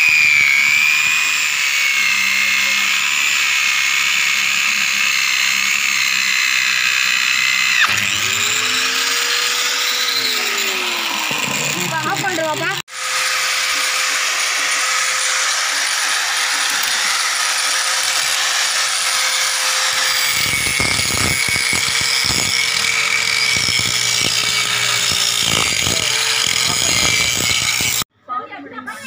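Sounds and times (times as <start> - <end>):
angle grinder whining: 0.0 - 28.1
grinder disc on metal pipe: 0.0 - 28.1.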